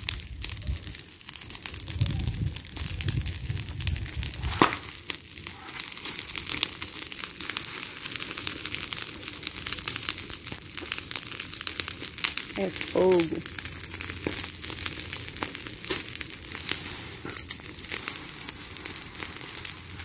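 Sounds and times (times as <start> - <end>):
fire crackling: 0.0 - 20.0
loud snap of burning wood: 0.0 - 20.0.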